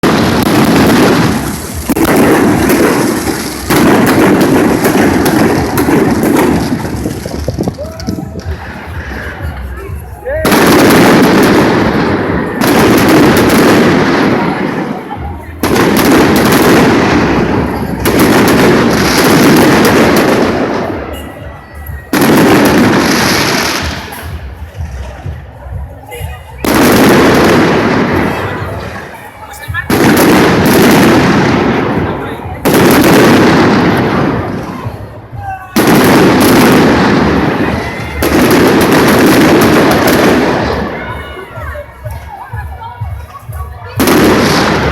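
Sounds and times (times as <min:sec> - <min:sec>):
fireworks booming and crackling: 0:00.0 - 0:44.9.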